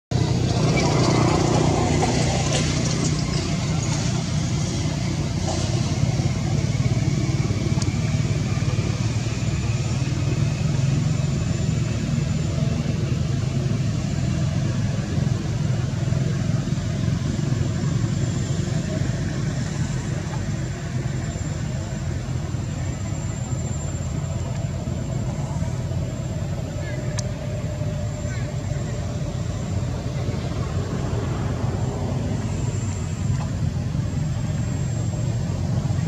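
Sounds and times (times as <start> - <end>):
engine humming: 0.1 - 36.0.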